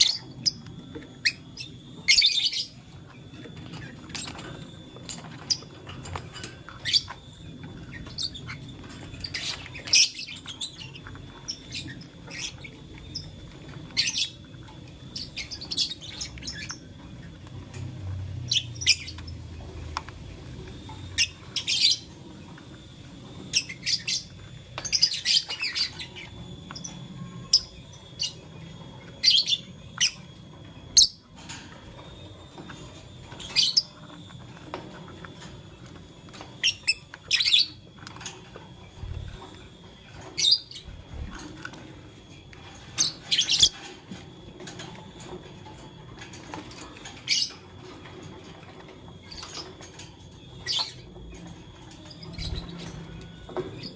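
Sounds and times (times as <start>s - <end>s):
birds chirping high-pitched: 0.0s - 53.9s.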